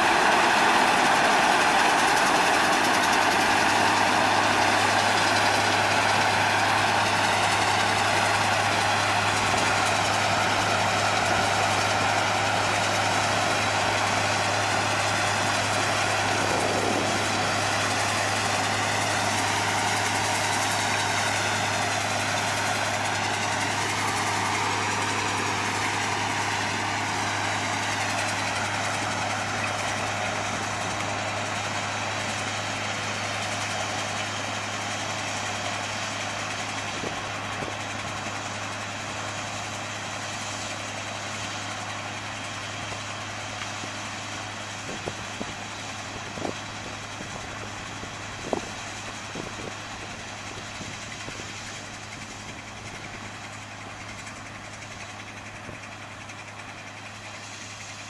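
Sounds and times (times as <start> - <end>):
combine harvester drone: 0.0 - 58.0.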